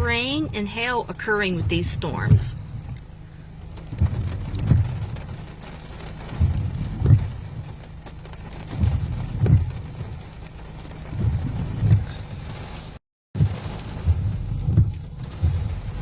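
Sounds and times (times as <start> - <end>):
rain hissing on car: 0.0 - 16.0
windshield wipers thumping: 0.0 - 16.0.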